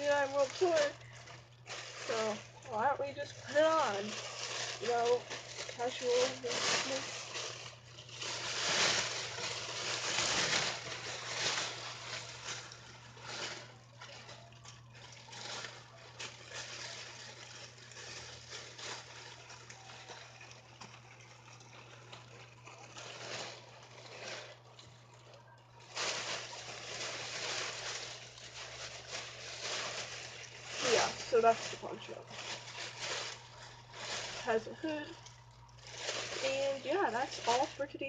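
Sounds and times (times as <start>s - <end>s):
poncho rustling: 0.0s - 38.0s.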